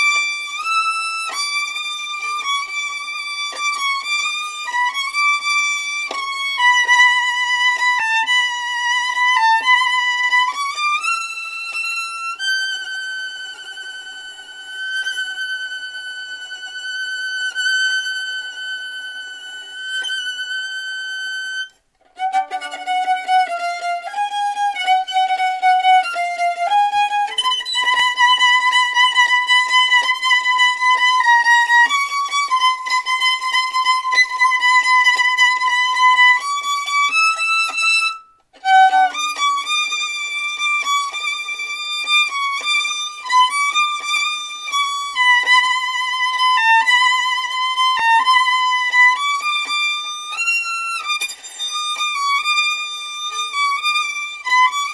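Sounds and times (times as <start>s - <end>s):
solo violin melody: 0.0s - 54.9s.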